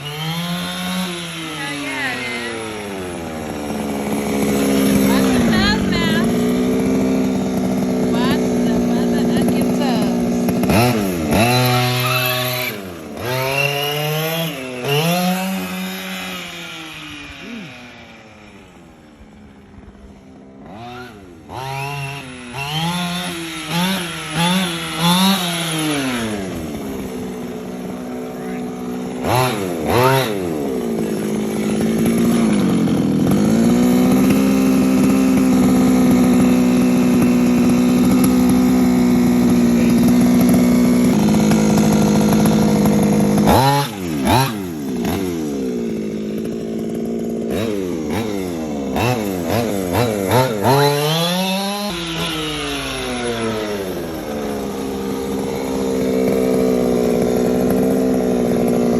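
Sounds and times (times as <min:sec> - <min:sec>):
small two-stroke engine revving: 0:00.0 - 0:58.9.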